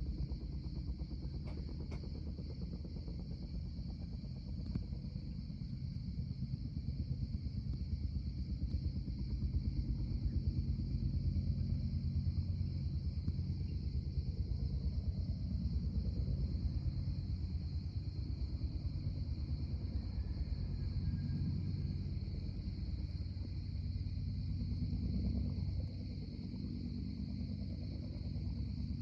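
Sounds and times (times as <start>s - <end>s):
low fluttering rumble: 0.0s - 29.0s.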